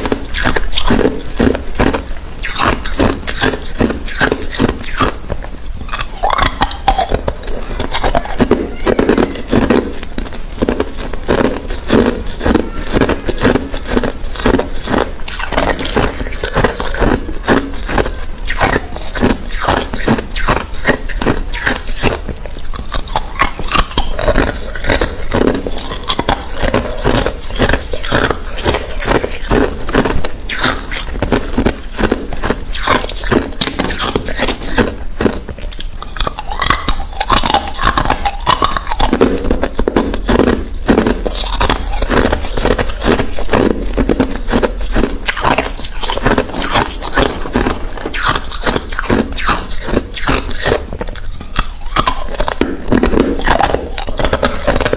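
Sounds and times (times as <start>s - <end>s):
chewing ice cubes crunching: 0.0s - 54.9s.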